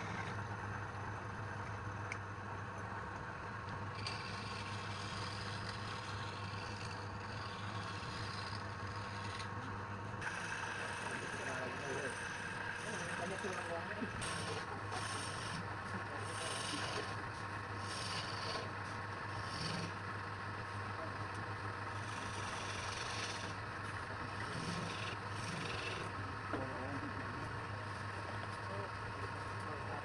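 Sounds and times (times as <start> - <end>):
tool scraping spinning wood: 0.0 - 2.9, 3.8 - 30.0
lathe motor hum: 0.0 - 30.0.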